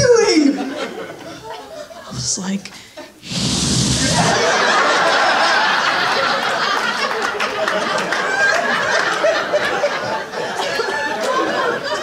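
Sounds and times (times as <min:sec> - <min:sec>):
audience laughing: 0:00.6 - 0:02.2, 0:03.3 - 0:12.0.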